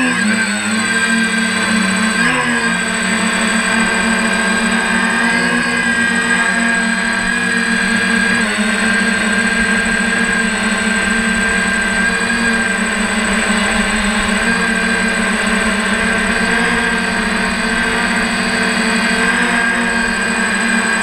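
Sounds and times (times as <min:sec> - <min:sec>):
drone motors and propellers droning: 0:00.0 - 0:21.0.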